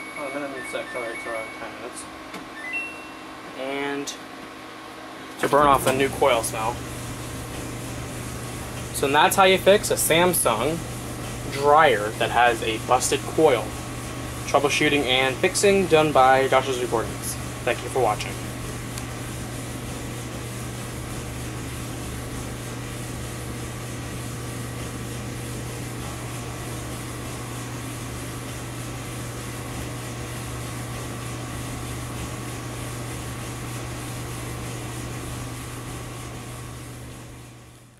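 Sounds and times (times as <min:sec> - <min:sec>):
clothes dryer hum and rushing hiss: 0:00.0 - 0:37.9.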